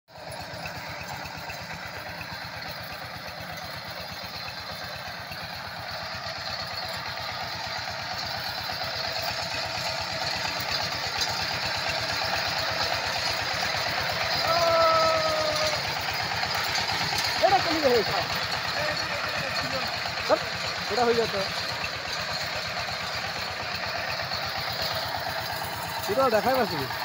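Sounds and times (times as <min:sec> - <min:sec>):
tiller diesel engine running: 0:00.1 - 0:27.0.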